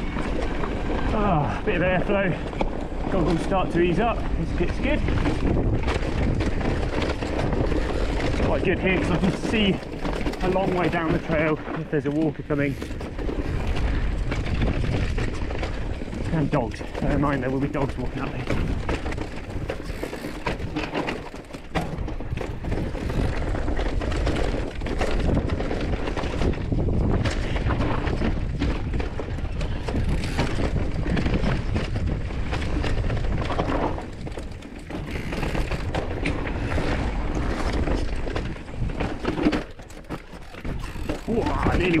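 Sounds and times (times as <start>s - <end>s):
bike knocking and rattling: 0.0s - 42.0s
bike tyres rumbling over rough ground: 0.0s - 42.0s
wind buffeting microphone: 0.0s - 42.0s.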